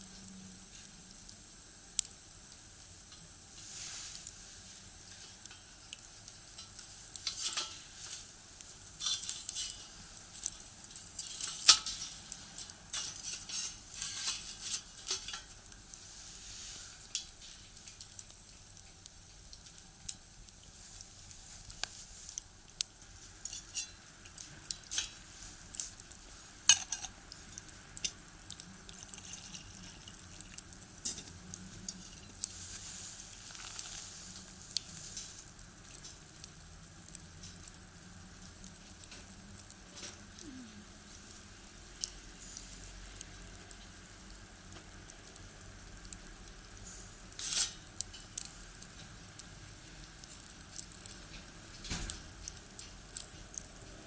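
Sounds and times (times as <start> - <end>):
faint hiss: 0.0 - 52.4
firewood crackling and popping: 0.0 - 54.0.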